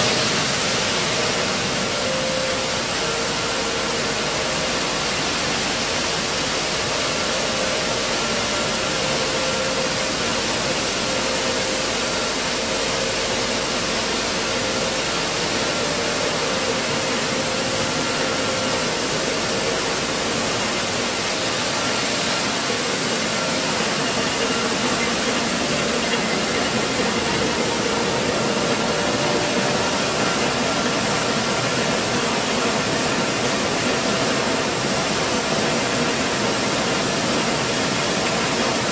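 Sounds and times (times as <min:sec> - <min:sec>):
stone mill machine noise: 0:00.0 - 0:38.9.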